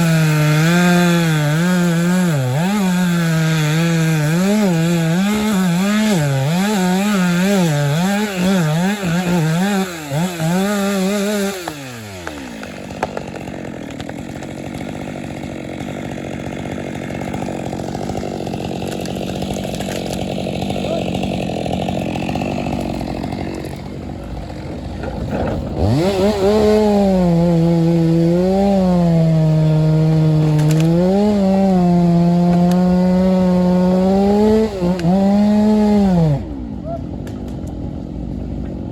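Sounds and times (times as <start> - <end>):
chainsaw cutting timber: 0.0 - 38.9.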